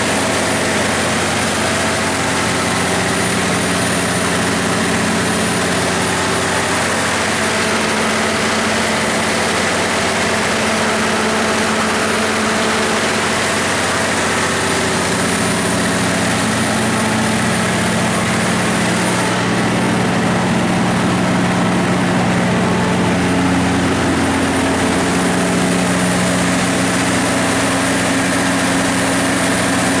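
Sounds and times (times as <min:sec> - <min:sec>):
diesel generator running: 0:00.0 - 0:30.0.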